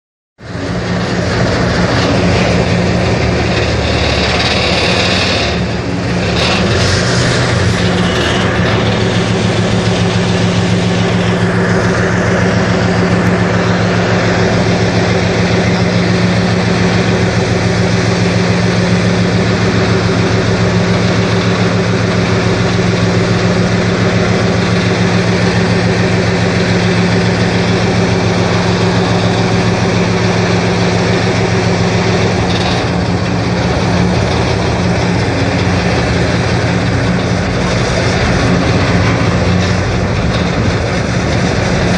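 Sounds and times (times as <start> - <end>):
boat engine running: 0.4 - 41.9
rushing water: 0.4 - 41.9
wind: 0.4 - 41.9.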